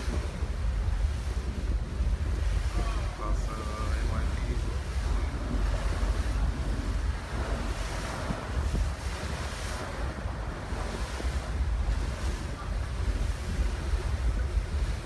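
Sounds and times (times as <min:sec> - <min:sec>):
choppy water rushing: 0:00.0 - 0:15.0
wind buffeting microphone: 0:00.0 - 0:15.0.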